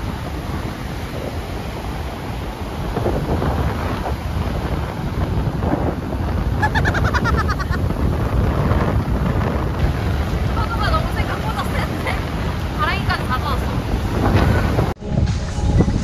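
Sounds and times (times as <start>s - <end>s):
surf breaking on beach: 0.0s - 15.5s
wind buffeting microphone: 0.0s - 16.0s.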